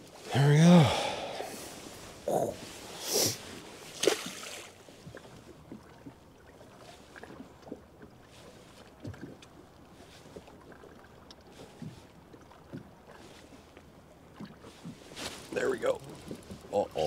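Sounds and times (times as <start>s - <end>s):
waves lapping against boat hull: 0.0s - 17.0s.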